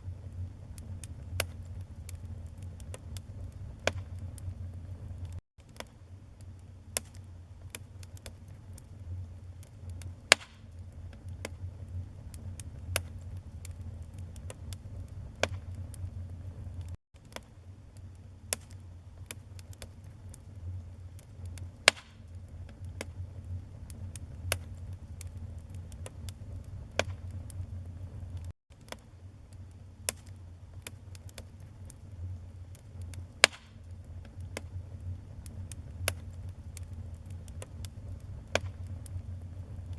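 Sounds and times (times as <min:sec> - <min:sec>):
fire flames rumbling: 0:00.0 - 0:05.4, 0:06.4 - 0:17.0, 0:18.0 - 0:28.5, 0:29.2 - 0:39.9
burning logs crackling and popping: 0:00.0 - 0:39.9.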